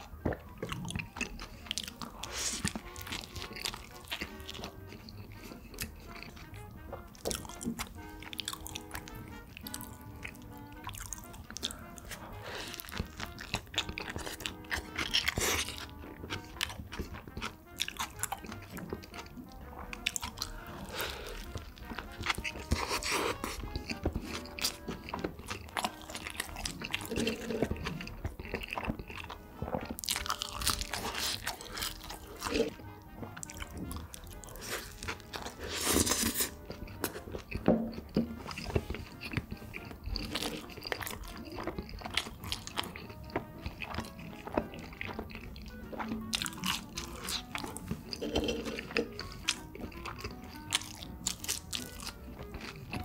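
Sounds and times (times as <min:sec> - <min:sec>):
background music: 0:00.0 - 0:53.0
chewing and crunching food: 0:00.0 - 0:53.0.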